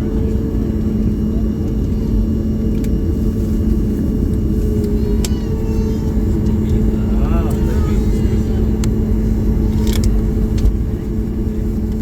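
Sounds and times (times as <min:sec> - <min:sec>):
jet engines and airflow in cabin: 0:00.0 - 0:12.0.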